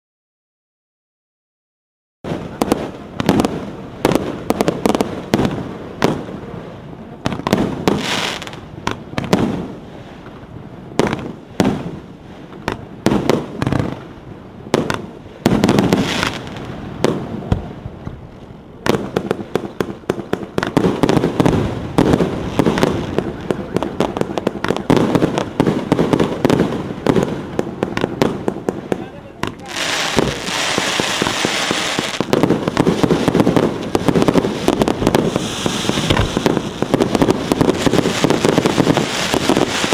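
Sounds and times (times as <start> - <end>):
fireworks firing sharp shots: 2.3 - 39.9.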